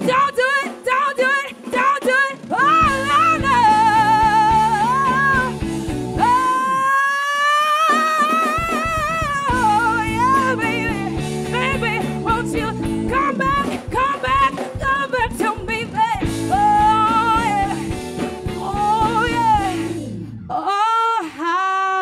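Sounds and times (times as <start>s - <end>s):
woman singing into a microphone: 0.0s - 5.6s, 6.2s - 22.0s
live band playing: 0.0s - 20.7s.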